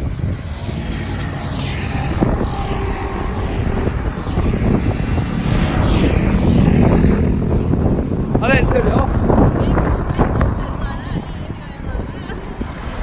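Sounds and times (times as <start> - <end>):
motorbike engines passing: 0.0 - 13.0.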